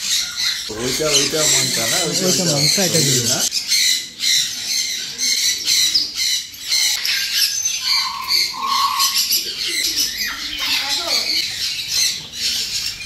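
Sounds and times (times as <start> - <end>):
parrots screeching and squawking: 0.0 - 13.0.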